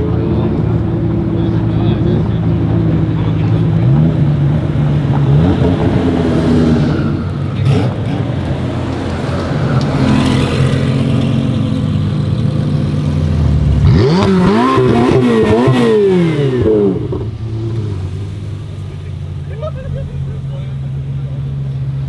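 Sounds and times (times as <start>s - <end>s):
car engine idling: 0.0s - 5.6s, 6.9s - 22.0s
car engine revving: 0.0s - 22.0s.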